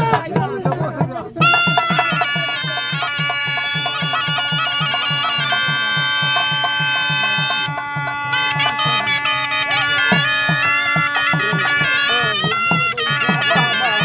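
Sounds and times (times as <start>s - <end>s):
steady drum beat: 0.0s - 14.0s
double-reed pipe melody: 1.4s - 14.0s.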